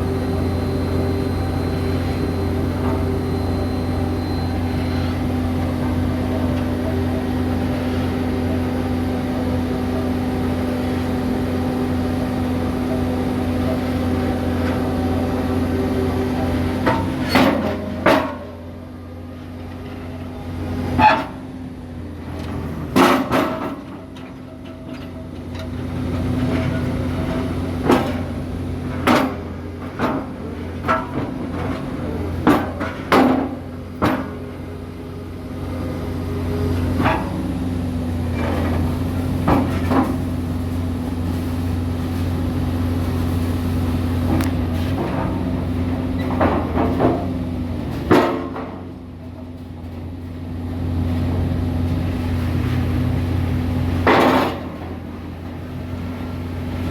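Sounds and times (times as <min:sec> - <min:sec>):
construction machine engine running: 0:00.0 - 0:56.9.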